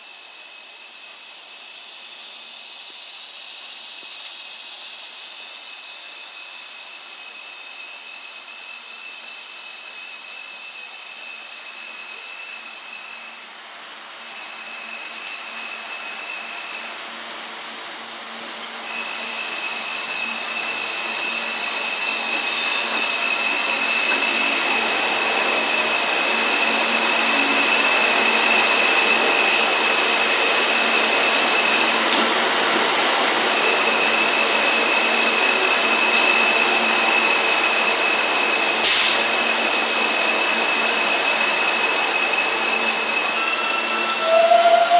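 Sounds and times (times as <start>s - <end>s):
high-pitched whine: 0.0s - 44.9s
subway train pulling in: 0.0s - 44.9s.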